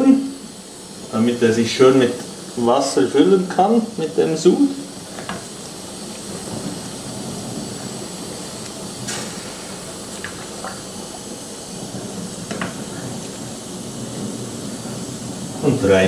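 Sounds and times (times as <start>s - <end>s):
pot simmering bubbling hiss: 0.0s - 16.0s.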